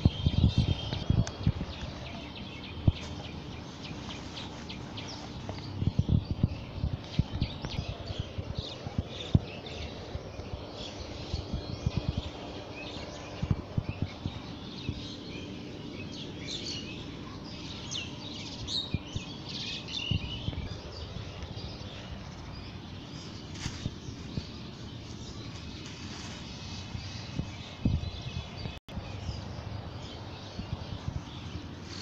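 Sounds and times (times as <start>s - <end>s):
birds chirping: 0.0s - 32.0s
outdoor background noise: 0.0s - 32.0s.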